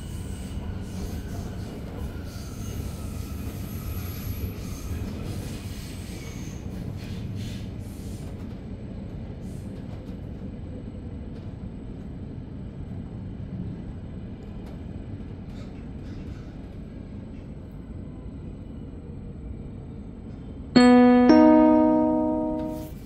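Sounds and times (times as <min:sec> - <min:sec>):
train rumbling on track: 0:00.0 - 0:22.3.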